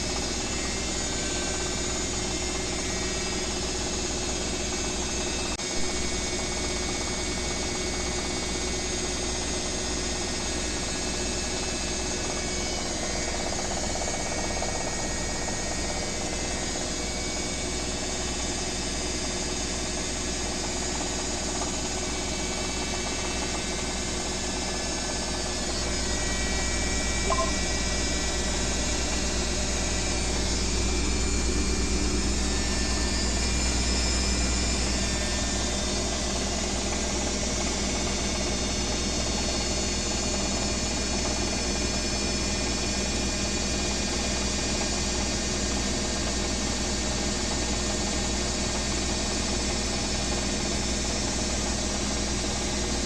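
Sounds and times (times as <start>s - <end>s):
washing machine spinning: 0.0s - 53.0s.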